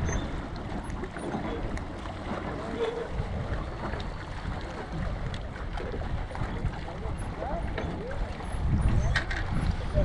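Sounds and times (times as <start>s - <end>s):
lake water lapping: 0.0s - 10.0s
wind on microphone: 0.0s - 10.0s.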